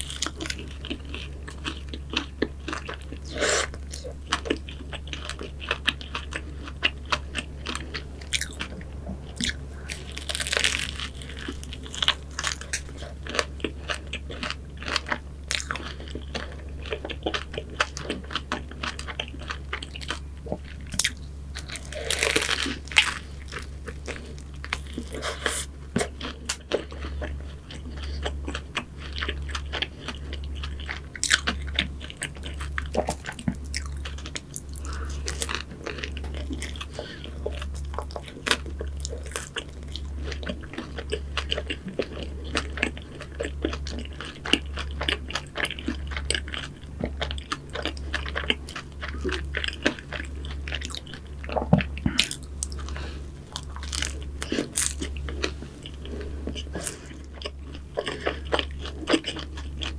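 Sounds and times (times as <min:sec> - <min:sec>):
crunching and chewing pastry: 0:00.0 - 0:59.9.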